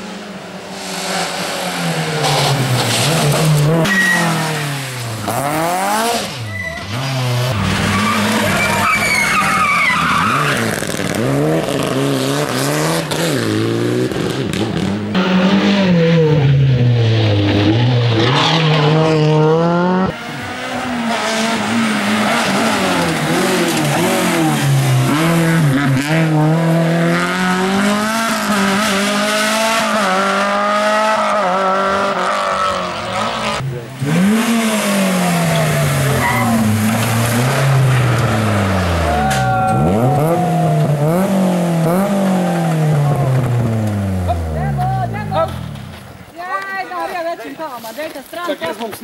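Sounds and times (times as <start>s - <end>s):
rally car engines revving: 0.0s - 46.3s.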